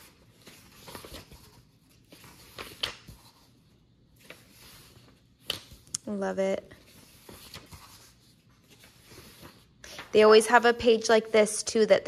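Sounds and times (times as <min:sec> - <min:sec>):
paper pages turning: 0:00.0 - 0:06.0, 0:06.7 - 0:11.4.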